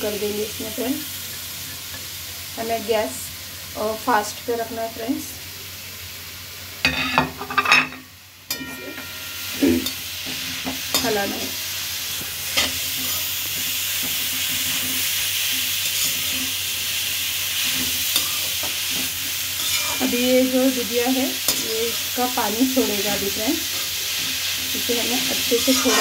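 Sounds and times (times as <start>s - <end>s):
vegetables sizzling in pan: 0.0s - 26.0s.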